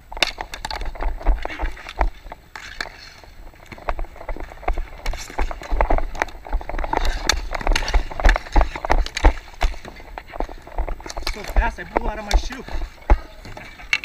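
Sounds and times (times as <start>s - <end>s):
hockey stick clacking: 0.1s - 14.0s
footsteps on plastic court tiles: 0.2s - 14.0s.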